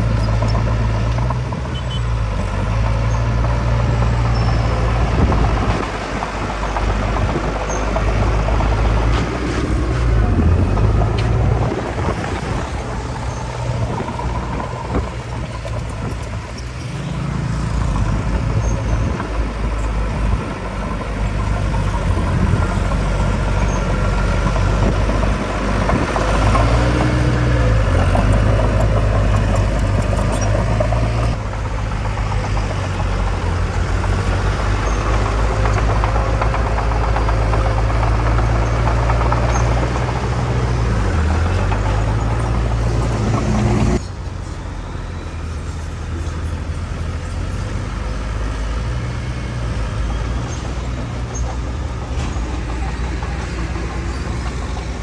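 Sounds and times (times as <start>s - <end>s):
heavy machinery diesel engines: 0.0s - 55.0s.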